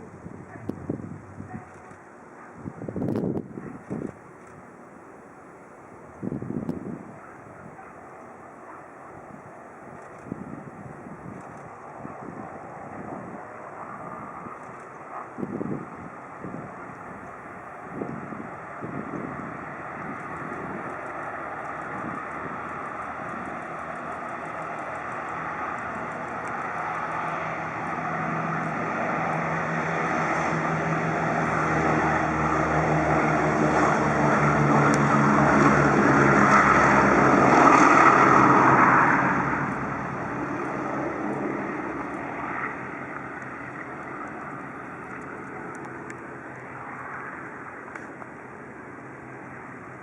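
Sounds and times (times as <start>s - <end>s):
propeller aircraft engine: 0.0s - 50.0s.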